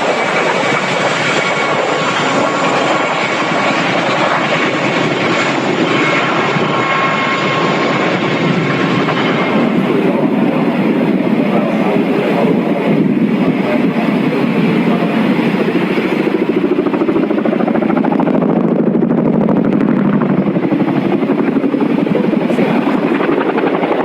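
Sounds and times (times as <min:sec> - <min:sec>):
helicopter rotor chop: 0:00.0 - 0:24.0.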